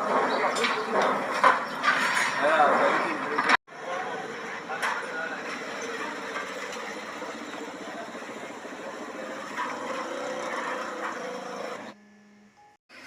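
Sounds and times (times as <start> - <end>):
street traffic running past: 0.0 - 13.0.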